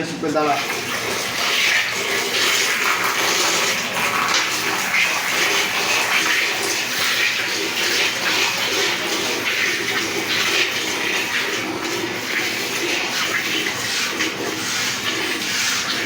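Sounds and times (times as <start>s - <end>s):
milk squirting into a pail: 0.4s - 16.0s.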